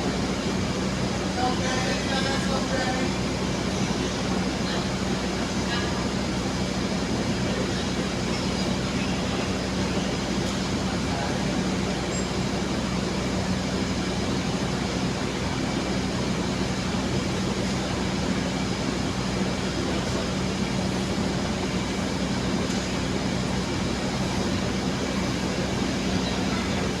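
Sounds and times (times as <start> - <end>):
idling train hum: 0.0 - 27.0.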